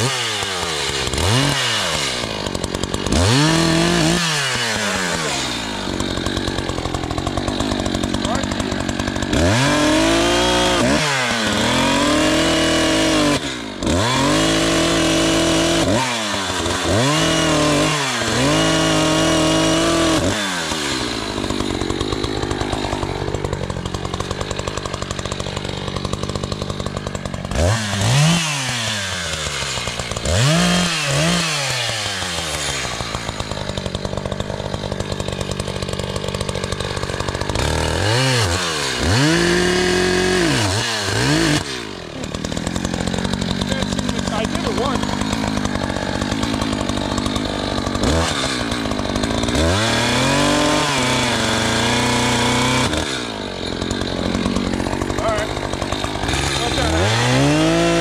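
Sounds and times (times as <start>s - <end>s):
chainsaw cutting tree: 0.0s - 58.0s
chainsaw engine revving: 0.0s - 58.0s.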